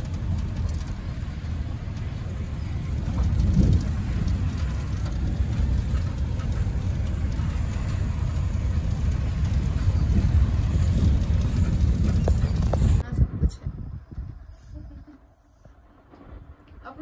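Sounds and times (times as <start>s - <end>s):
road noise inside vehicle: 0.0s - 17.0s
wind noise: 0.0s - 17.0s.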